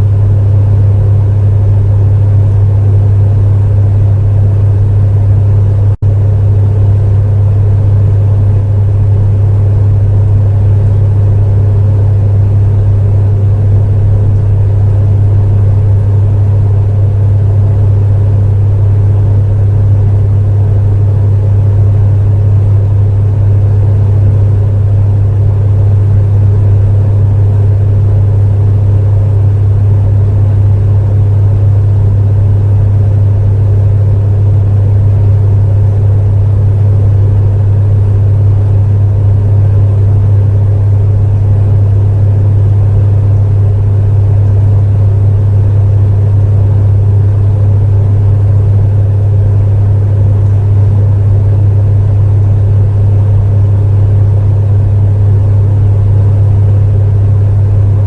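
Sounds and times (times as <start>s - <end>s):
fan rushing: 0.0s - 58.0s
space heater humming: 0.0s - 58.0s.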